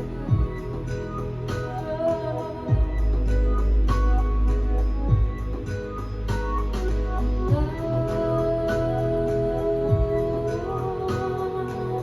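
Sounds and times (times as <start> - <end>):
deep bass note: 0.0 - 2.1, 2.7 - 11.0
music with singing and beat: 0.0 - 12.0.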